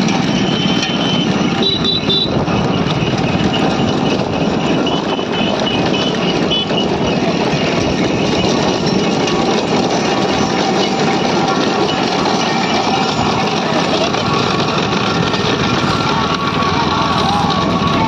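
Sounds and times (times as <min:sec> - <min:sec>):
road noise: 0:00.0 - 0:18.0
vehicle engine: 0:00.0 - 0:18.0.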